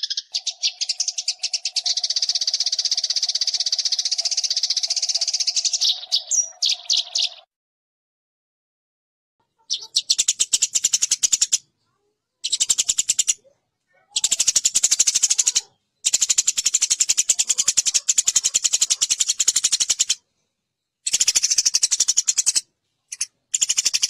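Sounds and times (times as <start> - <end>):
sparrows chattering: 0.0 - 7.5, 9.4 - 24.0.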